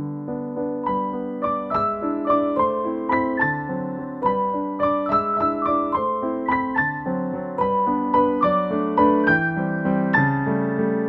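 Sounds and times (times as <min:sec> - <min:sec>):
gentle keyboard melody: 0:00.0 - 0:11.0.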